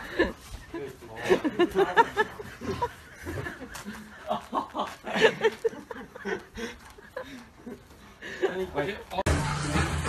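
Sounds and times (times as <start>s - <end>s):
person chuckling: 0.0s - 8.9s.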